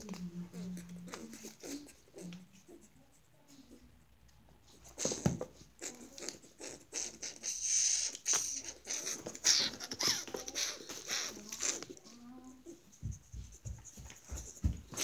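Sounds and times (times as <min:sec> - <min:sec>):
rustling and scratching against clothing: 0:00.0 - 0:15.0.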